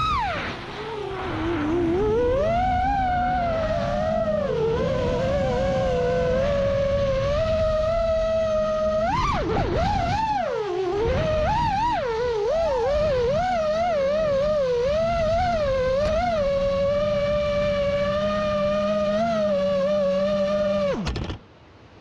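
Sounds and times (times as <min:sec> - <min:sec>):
drone motors and propellers whining: 0:00.0 - 0:21.4.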